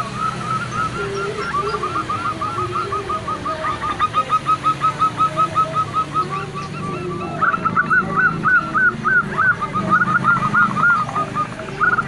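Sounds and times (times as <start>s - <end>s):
dove calling repeated notes: 0.0s - 12.0s
low dove coos: 0.0s - 12.0s.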